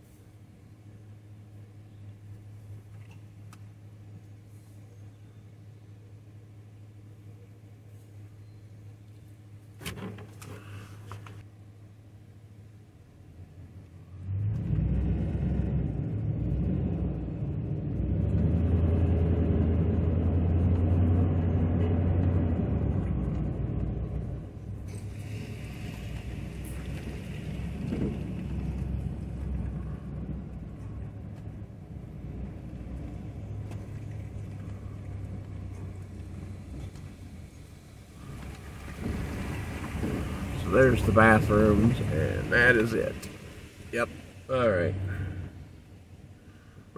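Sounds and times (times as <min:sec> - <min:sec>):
pickup engine and tyre rumble: 0:00.0 - 0:46.9.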